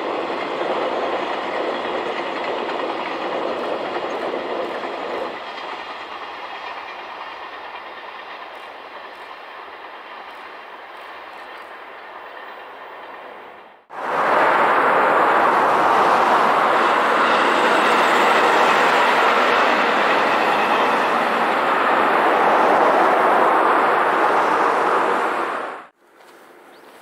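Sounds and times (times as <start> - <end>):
distant freight train: 0.0 - 27.0
electric train rumbling: 0.0 - 27.0.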